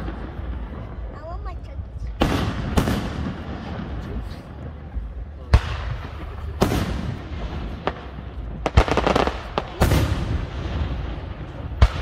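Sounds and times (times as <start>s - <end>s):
fireworks booming: 0.0s - 12.0s
fireworks popping: 0.0s - 12.0s.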